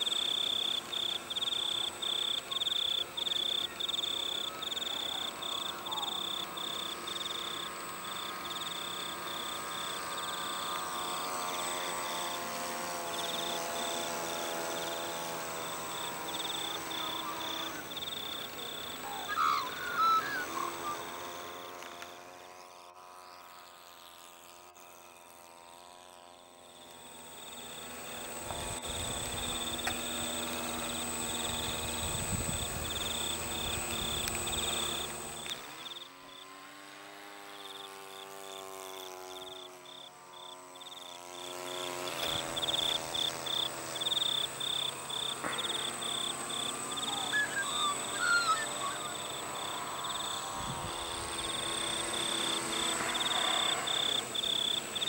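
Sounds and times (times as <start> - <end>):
insects chirping rhythmically: 0.0 - 21.6, 26.7 - 36.4, 39.3 - 41.2, 42.2 - 55.0
quadcopter motors humming: 0.0 - 55.0.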